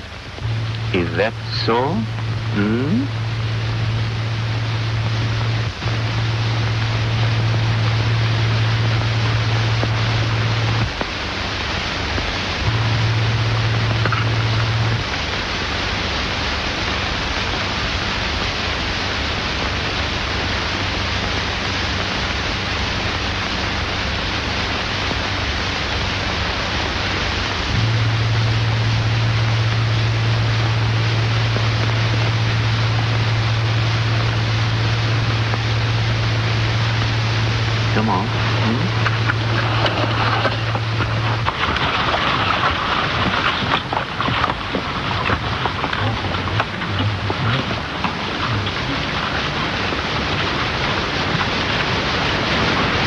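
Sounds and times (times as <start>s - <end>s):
film soundtrack hiss: 0.0s - 53.0s
low hum: 0.0s - 53.0s.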